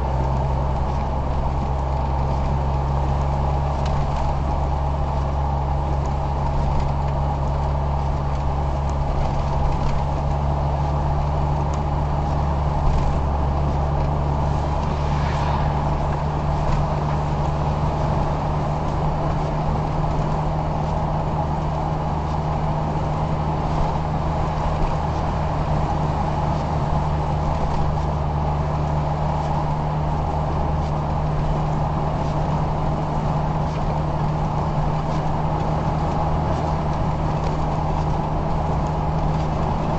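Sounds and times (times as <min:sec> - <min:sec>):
car engine hum: 0:00.0 - 0:39.9
road noise: 0:00.0 - 0:39.9.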